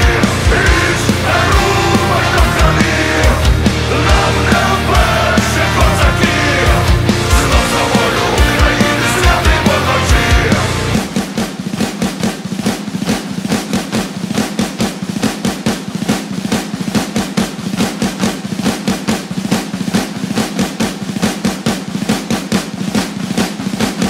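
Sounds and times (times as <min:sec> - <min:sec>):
fast snare drum roll: 0:00.0 - 0:24.0.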